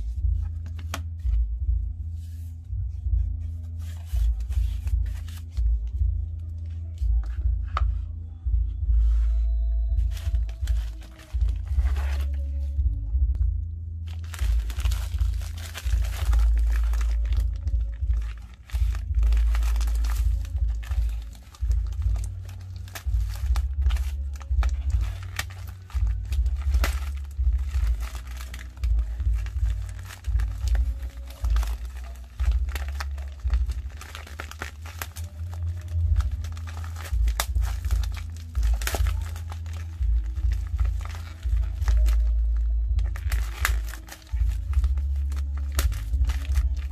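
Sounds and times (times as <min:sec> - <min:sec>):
plastic mailer crinkling: 0:00.0 - 0:01.4, 0:03.6 - 0:07.9, 0:09.8 - 0:12.9, 0:14.1 - 0:46.9.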